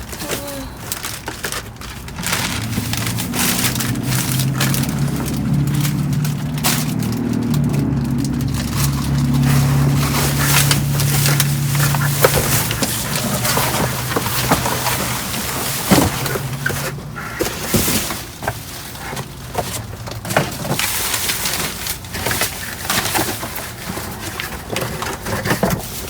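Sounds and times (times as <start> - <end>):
bags and packaging rustling: 0.0 - 26.0
items clicking and knocking: 0.0 - 26.0.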